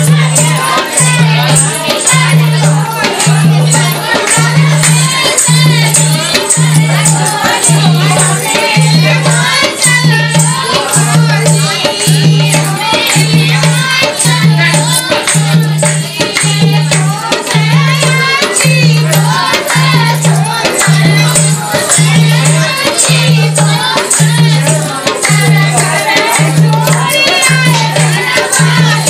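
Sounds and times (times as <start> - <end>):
jingling rattling percussion: 0.0 - 29.0.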